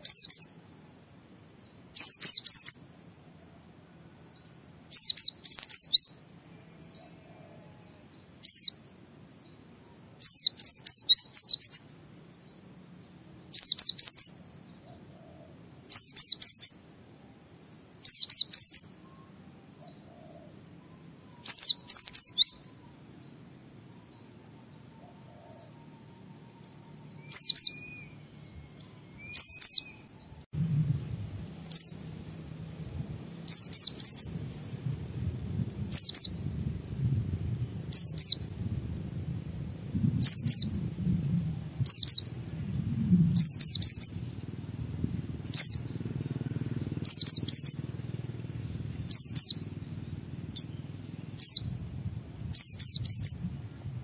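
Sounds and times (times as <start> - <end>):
bird chirping and trilling: 0.0 - 3.1, 4.2 - 30.4, 31.0 - 53.7
faint low hum: 2.7 - 54.0.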